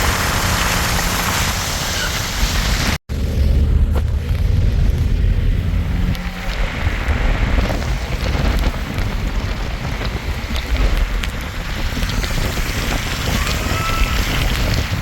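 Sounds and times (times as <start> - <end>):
falling rain and snow: 0.0 - 15.0
wind rumbling on microphone: 0.0 - 15.0.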